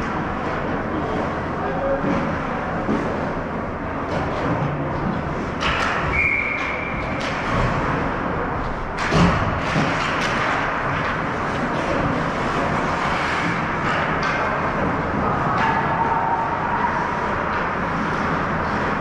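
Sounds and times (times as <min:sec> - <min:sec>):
hockey sticks and pucks clacking: 0:00.0 - 0:19.0
rink background noise: 0:00.0 - 0:19.0.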